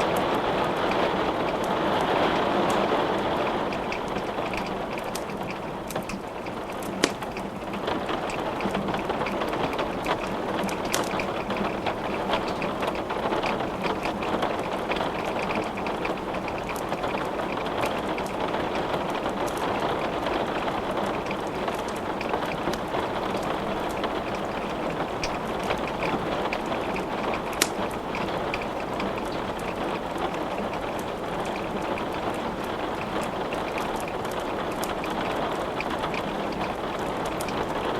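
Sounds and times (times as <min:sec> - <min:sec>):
rain falling: 0:00.0 - 0:37.9
wood fire crackling and popping: 0:00.0 - 0:37.9.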